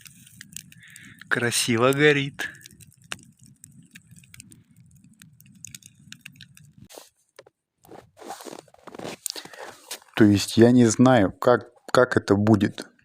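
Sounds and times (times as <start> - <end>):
campfire crackling: 0.0 - 11.9.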